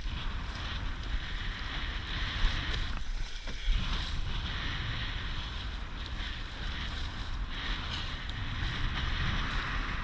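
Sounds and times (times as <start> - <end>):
water rushing along hull: 0.0 - 10.0
wind rumbling on microphone: 0.0 - 10.0.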